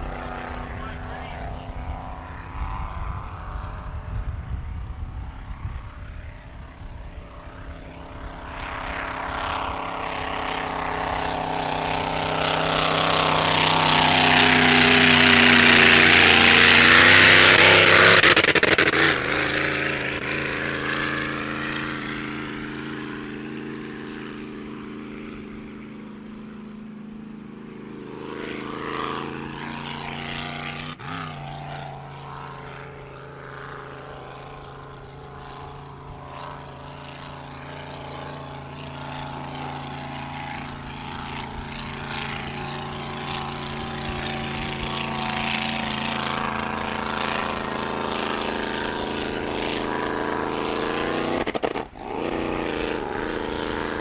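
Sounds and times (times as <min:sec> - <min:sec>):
racing boat engine roaring: 0:00.0 - 0:54.0.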